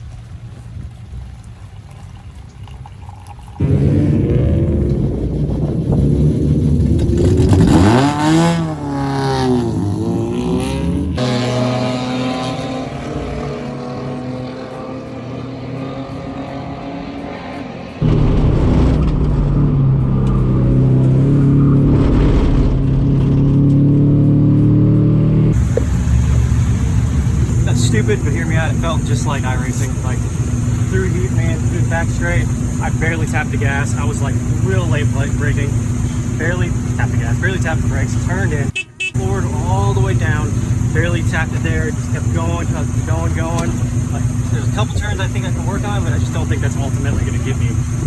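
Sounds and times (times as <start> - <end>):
race car engine revving: 3.6 - 48.0.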